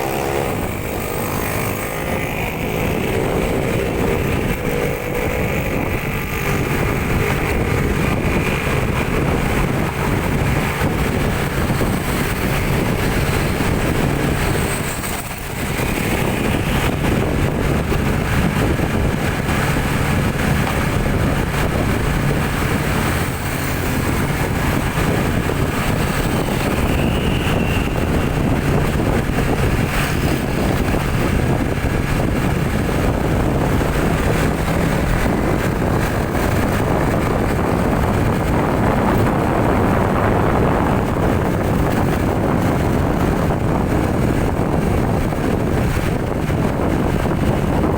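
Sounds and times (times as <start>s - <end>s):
road noise while driving: 0.0s - 47.9s
vehicle engine hum: 0.0s - 47.9s.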